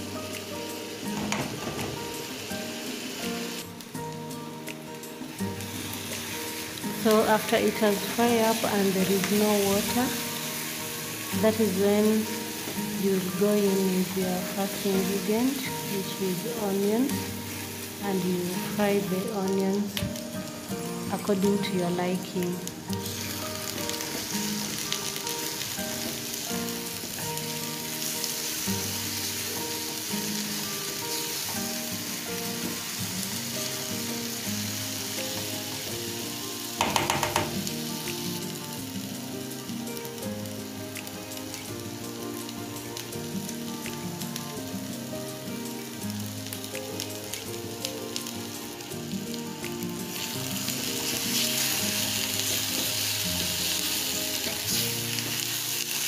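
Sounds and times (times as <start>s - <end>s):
food sizzling in a pan: 0.0s - 56.0s
soft background music: 0.0s - 56.0s.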